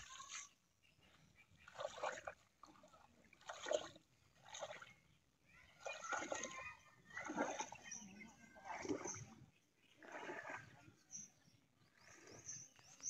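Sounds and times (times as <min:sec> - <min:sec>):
water splashing from wading: 0:00.0 - 0:11.3, 0:11.9 - 0:13.0.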